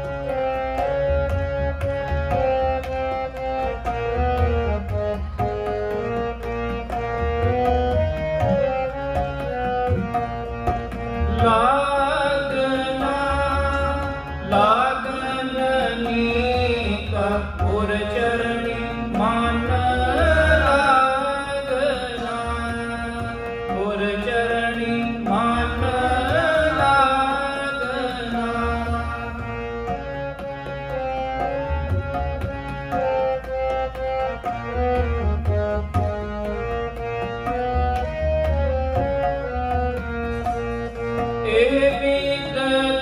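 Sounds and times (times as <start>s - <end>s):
harmoniums playing: 0.0s - 43.0s
tabla playing: 0.0s - 43.0s.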